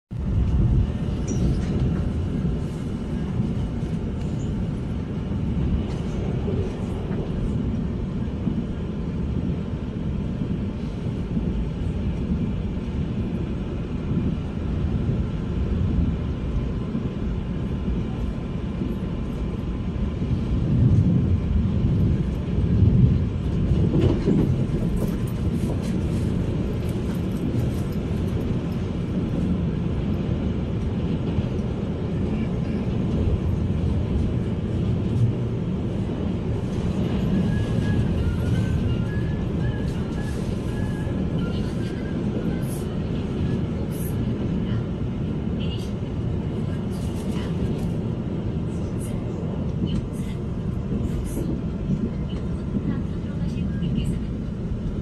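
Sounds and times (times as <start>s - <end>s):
train wheels rumbling on rails: 0.1s - 55.0s.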